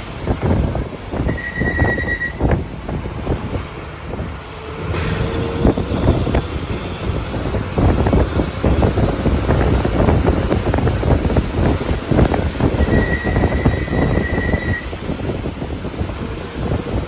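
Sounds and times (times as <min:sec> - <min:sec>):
vehicle rumbling on rough road: 0:00.0 - 0:17.0
wind buffeting microphone: 0:00.0 - 0:17.0.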